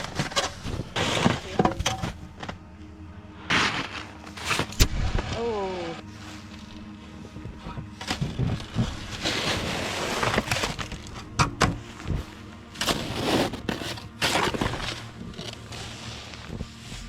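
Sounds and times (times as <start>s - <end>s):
packed snow crunching: 0.0s - 17.0s.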